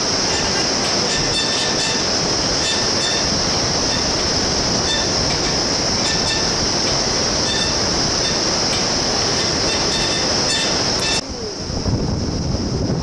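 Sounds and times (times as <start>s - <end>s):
white-water river rushing: 0.0s - 12.0s.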